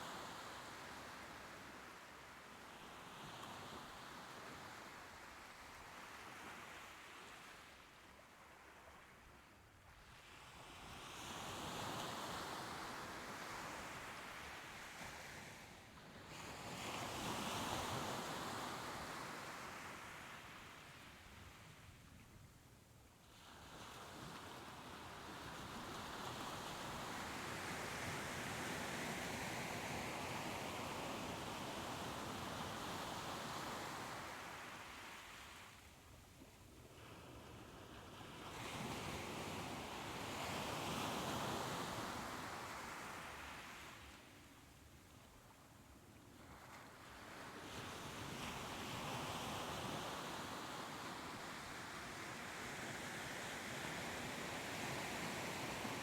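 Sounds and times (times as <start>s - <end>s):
soft ocean waves: 0.0s - 56.0s.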